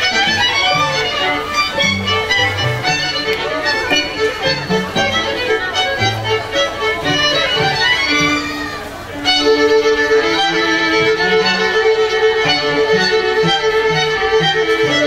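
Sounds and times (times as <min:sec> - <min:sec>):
string ensemble playing classical piece: 0:00.0 - 0:15.0.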